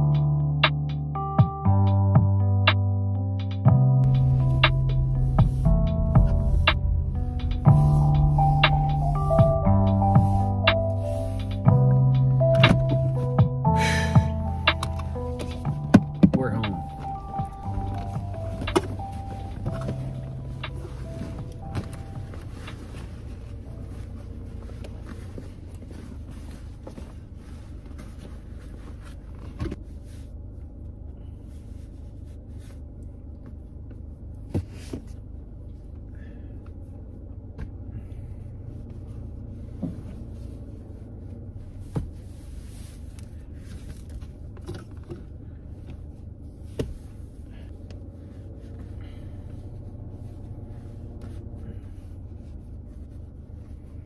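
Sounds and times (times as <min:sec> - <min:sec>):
car engine rumble inside cabin: 0:00.0 - 0:54.0.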